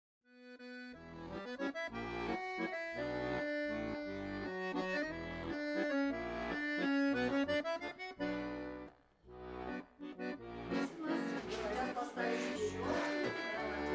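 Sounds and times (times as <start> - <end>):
accordion music: 0.3 - 13.9.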